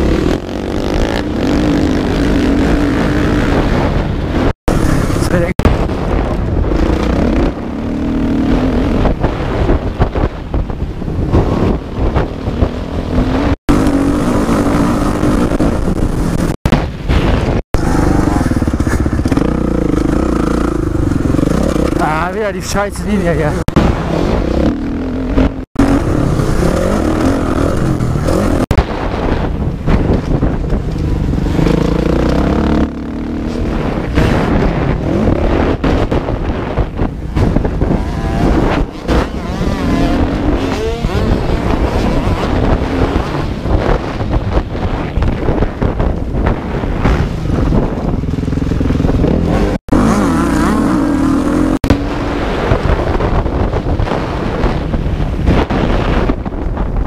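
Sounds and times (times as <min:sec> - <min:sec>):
motocross engine revving: 0:00.0 - 0:09.6, 0:11.3 - 0:16.6, 0:17.4 - 0:29.2, 0:30.8 - 0:36.5, 0:37.4 - 0:44.2, 0:46.7 - 0:53.2.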